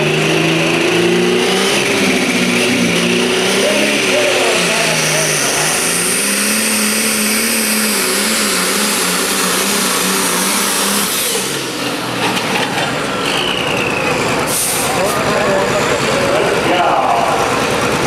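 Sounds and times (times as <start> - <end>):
diesel tractor engine under load: 0.0 - 18.0.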